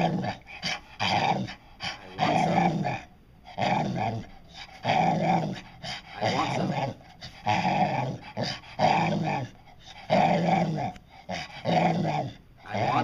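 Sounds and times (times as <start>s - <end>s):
dog vocalising: 0.0s - 13.0s.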